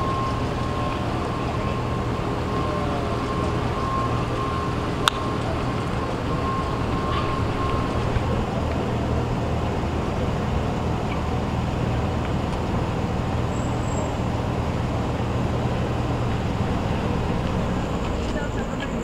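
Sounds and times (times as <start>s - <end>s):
road traffic noise: 0.0s - 19.0s
vehicle engine idling: 0.0s - 19.0s.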